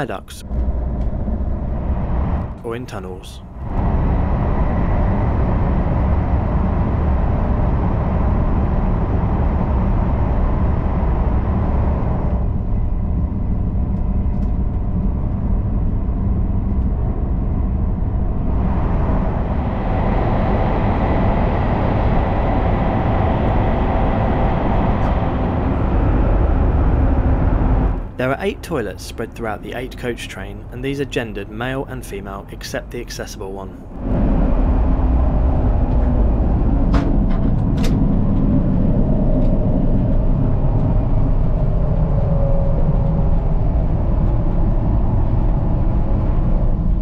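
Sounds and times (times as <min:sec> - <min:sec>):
high-speed train rumble: 0:00.0 - 0:47.0.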